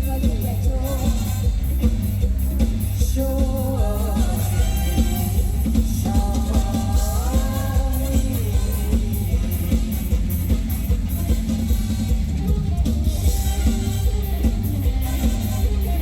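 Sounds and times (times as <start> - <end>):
drum kit beat: 0.0 - 16.0
heavy bass: 0.0 - 16.0.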